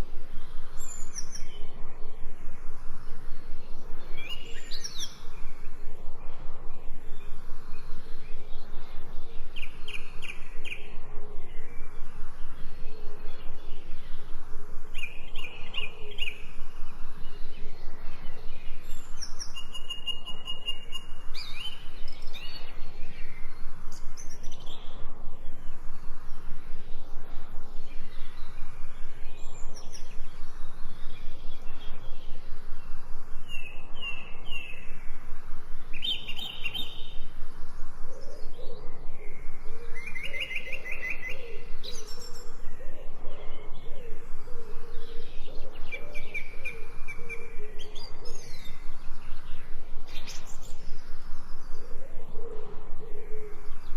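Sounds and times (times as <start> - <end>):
background hiss: 0.0 - 53.9
songbirds chirping: 0.0 - 53.9.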